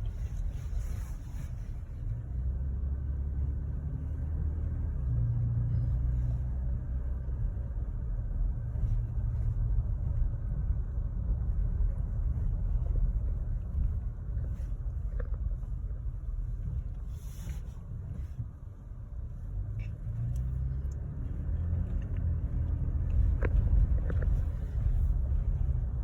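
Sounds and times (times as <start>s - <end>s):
road rumble: 0.0s - 26.0s.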